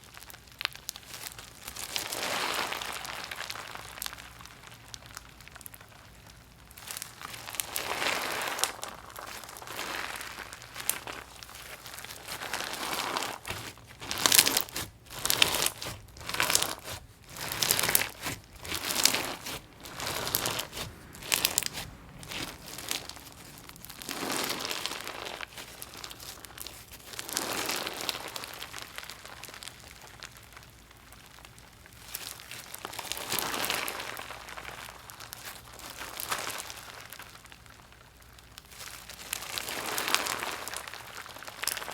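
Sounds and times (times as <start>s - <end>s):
crunchy slime being kneaded: 0.0s - 41.9s.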